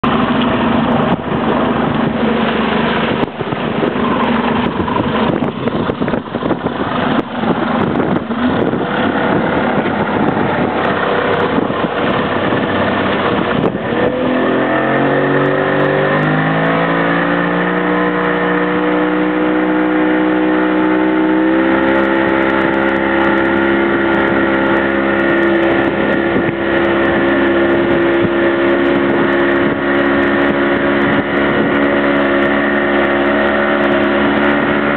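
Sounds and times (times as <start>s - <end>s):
motorboat engine running: 0.0s - 34.9s.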